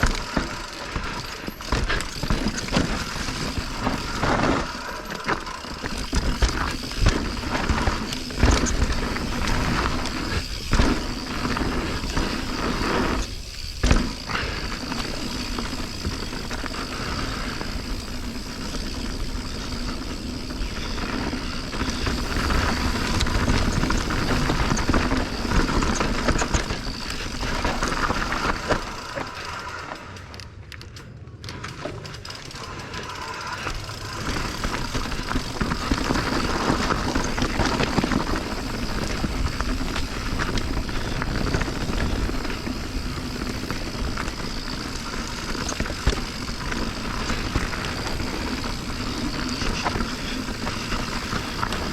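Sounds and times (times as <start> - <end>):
bike rattling and knocking: 0.0 - 51.9
bike tyres over rock and dirt: 0.0 - 51.9.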